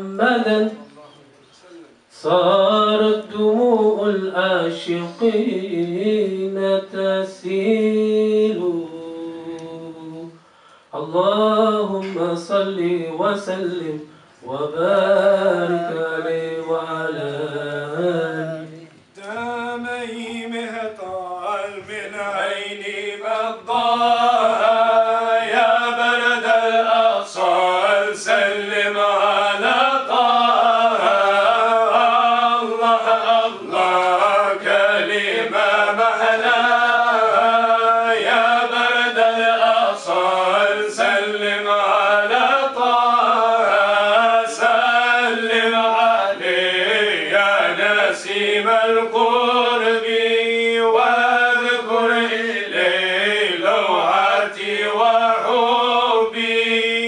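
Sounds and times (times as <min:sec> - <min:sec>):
men singing unaccompanied: 0:00.0 - 0:00.8, 0:02.1 - 0:57.0.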